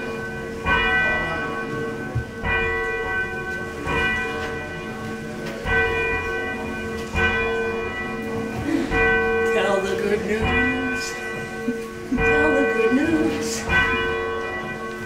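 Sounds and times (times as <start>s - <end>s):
church bell ringing: 0.0s - 15.0s.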